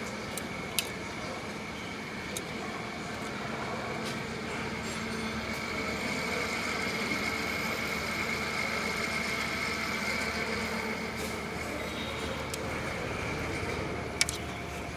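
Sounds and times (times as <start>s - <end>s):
high machine whine: 0.0s - 14.9s
washing machine drone: 0.0s - 14.9s.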